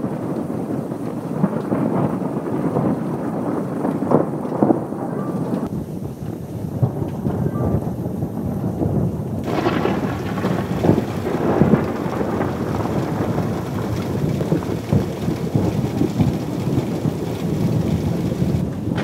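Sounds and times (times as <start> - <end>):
rain falling: 0.0 - 19.0
thunder rumbling: 0.0 - 19.0.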